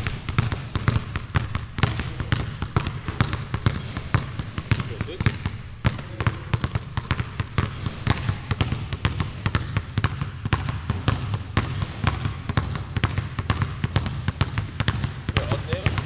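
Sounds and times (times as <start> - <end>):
basketballs bouncing on hardwood: 0.0 - 16.0.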